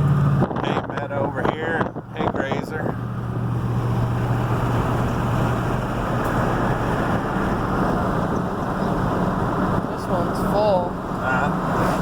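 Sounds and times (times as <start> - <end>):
road and tyre noise: 0.0 - 12.0
vehicle engine hum: 0.0 - 12.0.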